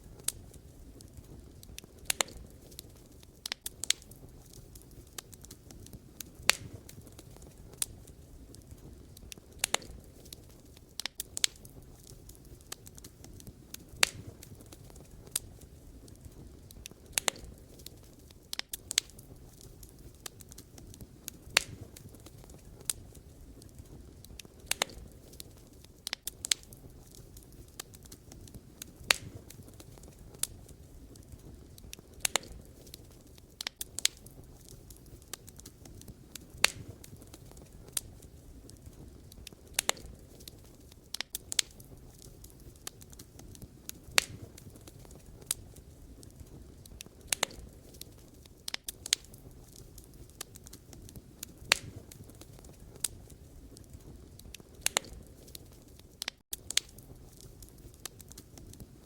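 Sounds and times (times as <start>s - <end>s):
wood fire crackling: 0.0s - 59.0s
firewood popping and snapping: 0.1s - 59.0s.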